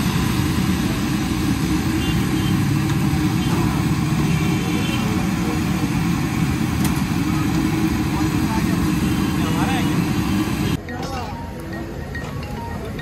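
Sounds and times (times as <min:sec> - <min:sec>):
gas burners roaring: 0:00.0 - 0:10.8.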